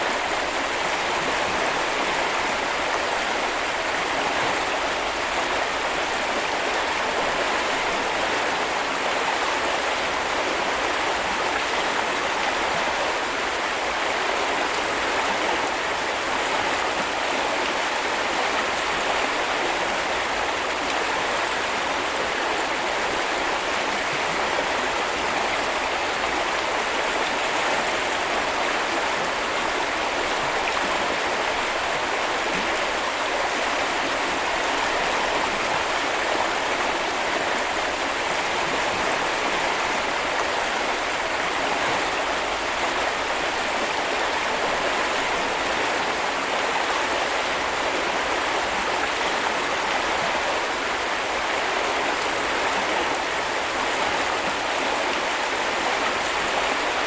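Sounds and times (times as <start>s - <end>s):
brook flowing over stones: 0.0s - 57.0s.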